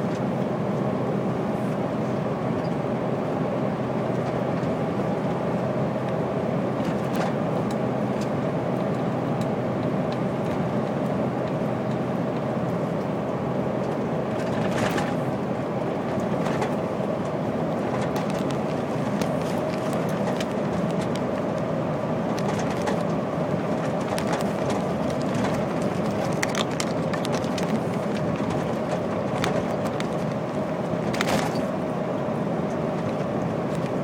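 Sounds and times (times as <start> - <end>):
road noise: 0.0 - 34.0
truck diesel engine drone: 0.0 - 34.0.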